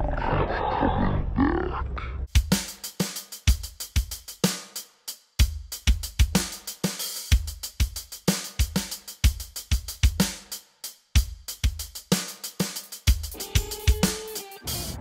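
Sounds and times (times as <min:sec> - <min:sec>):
drum kit beat: 0:02.3 - 0:15.0.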